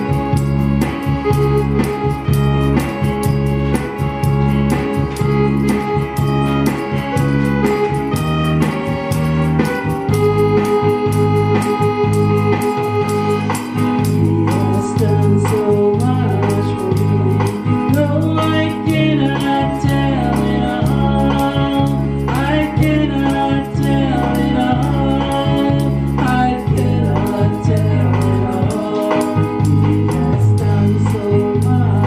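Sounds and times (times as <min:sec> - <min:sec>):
electronic organ chords: 0:00.0 - 0:32.0.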